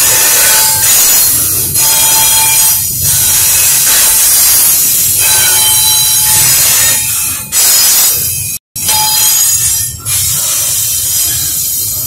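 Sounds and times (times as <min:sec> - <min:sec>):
freight train rolling past: 0:00.0 - 0:12.0.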